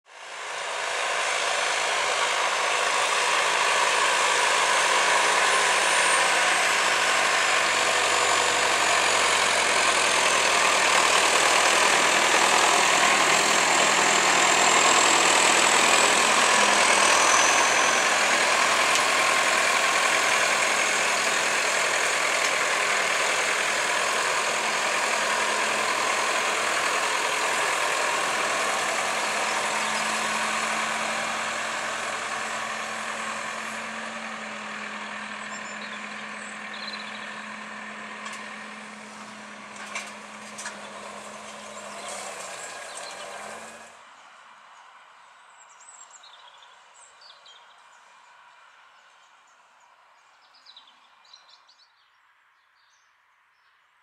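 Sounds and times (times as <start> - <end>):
tractor diesel engine under load: 0.0 - 45.4.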